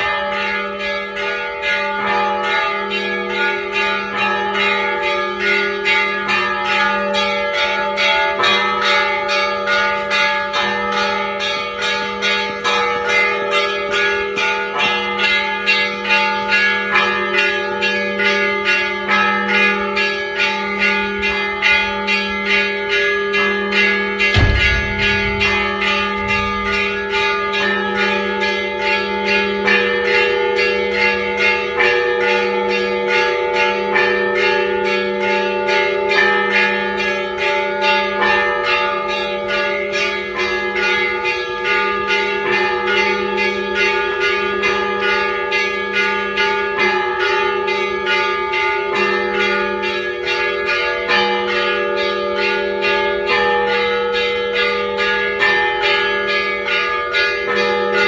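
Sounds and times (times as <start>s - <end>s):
church bells ringing rapid peal: 0.0s - 58.0s
low hum of large bell: 0.0s - 58.0s.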